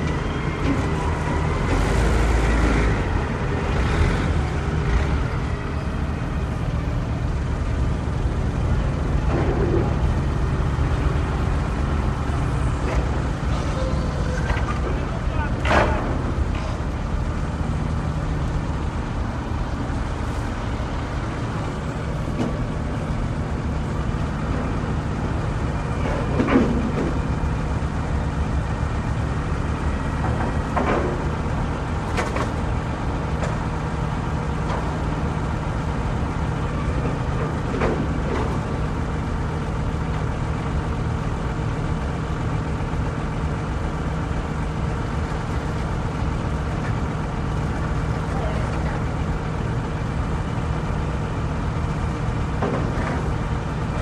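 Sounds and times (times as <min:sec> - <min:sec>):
loud low machinery drone: 0:00.0 - 0:54.0.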